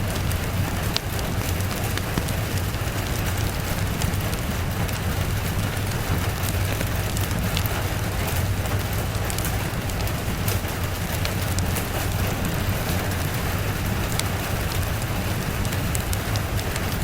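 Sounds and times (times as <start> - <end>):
low rumble: 0.0 - 17.0
steady rain: 0.0 - 17.0
wood fire crackling: 0.0 - 17.0.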